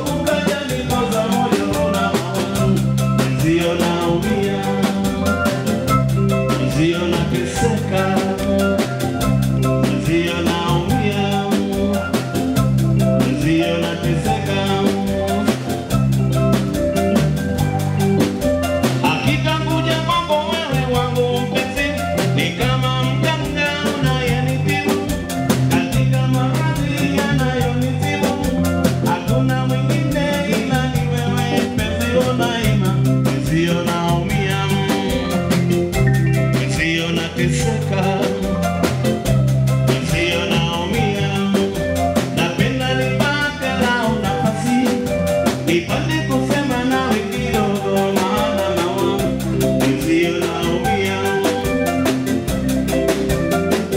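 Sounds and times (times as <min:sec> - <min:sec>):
person singing: 0:00.0 - 0:16.2, 0:18.8 - 0:39.1, 0:39.8 - 0:53.9
bass line: 0:00.0 - 0:53.9
drum kit beat: 0:00.0 - 0:53.9
live band playing dance music: 0:00.0 - 0:53.9.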